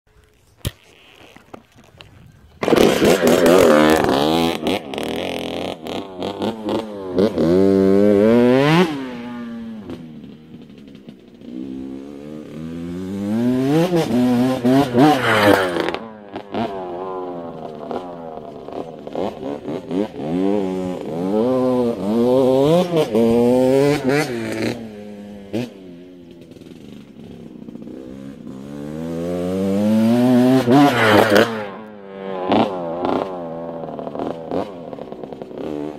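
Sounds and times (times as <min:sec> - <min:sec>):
dirt bike engine revving: 0:02.6 - 0:35.9.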